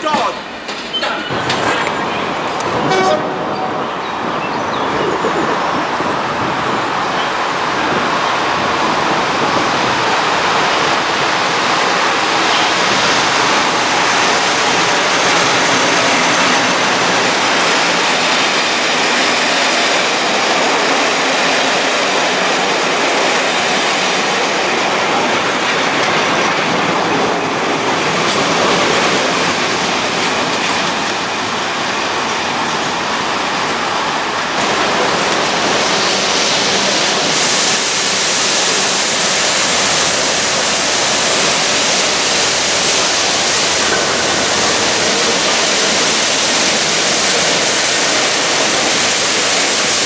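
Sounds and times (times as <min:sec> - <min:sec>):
train wheel and rail noise: 0:00.0 - 0:50.0.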